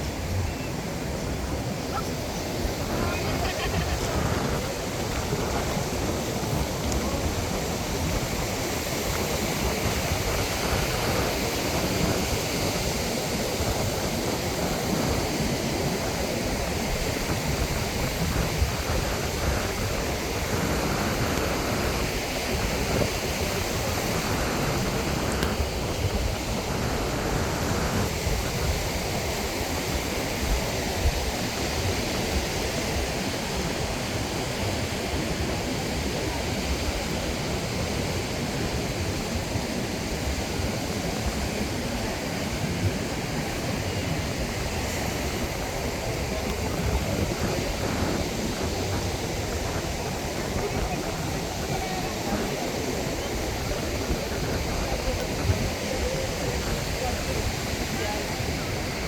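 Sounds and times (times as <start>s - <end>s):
ocean surf: 0.0s - 59.0s
wind on microphone: 0.0s - 59.0s.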